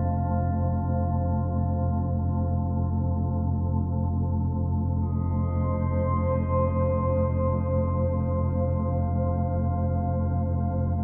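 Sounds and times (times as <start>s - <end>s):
calm ambient synthesizer music: 0.0s - 11.0s.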